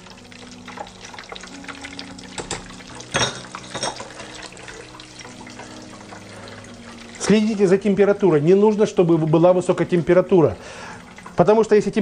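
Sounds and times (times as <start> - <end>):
deep-frying oil sizzling: 0.0 - 12.0
oil popping: 0.0 - 12.0.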